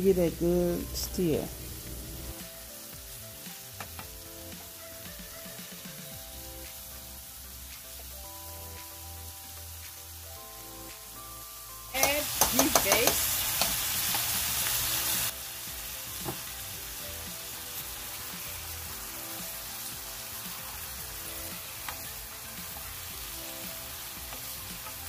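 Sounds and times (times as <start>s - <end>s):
meat sizzling in oil: 0.0s - 25.0s.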